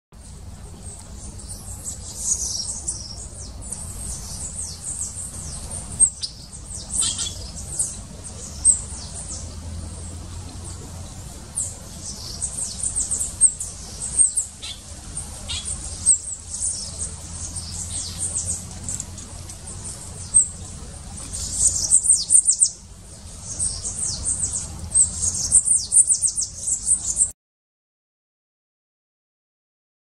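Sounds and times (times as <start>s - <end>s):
birds chirping: 0.2s - 27.3s.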